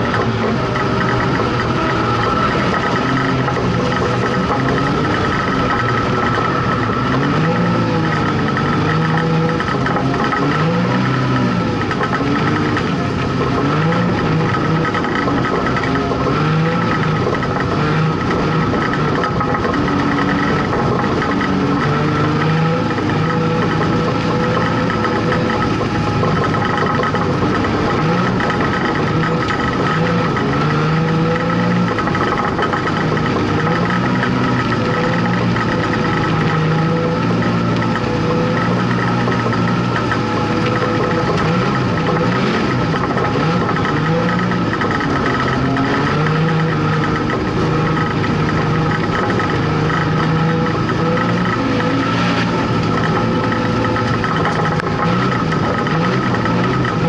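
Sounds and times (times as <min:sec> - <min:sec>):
race car engine revving: 0:00.0 - 0:57.0
steady high whine: 0:00.0 - 0:57.0.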